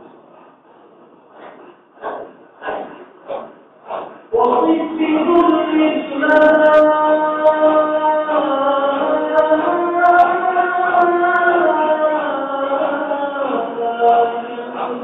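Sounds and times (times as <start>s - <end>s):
group of voices chanting: 1.4s - 15.0s.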